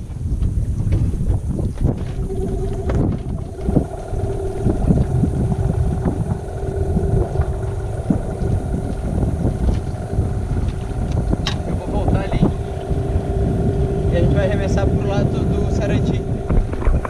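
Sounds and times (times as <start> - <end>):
wind rumbling on microphone: 0.0 - 17.0
boat motor humming: 1.1 - 17.0.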